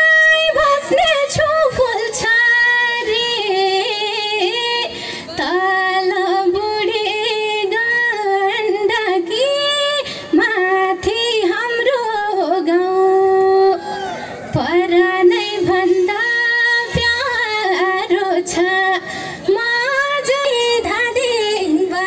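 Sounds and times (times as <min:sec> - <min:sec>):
woman singing into a microphone: 0:00.0 - 0:22.0.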